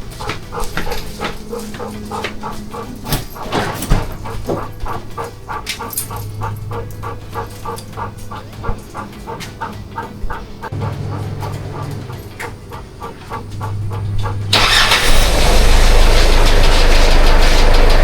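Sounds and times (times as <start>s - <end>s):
dog yapping: 0.0s - 17.7s
low engine hum: 0.0s - 18.0s.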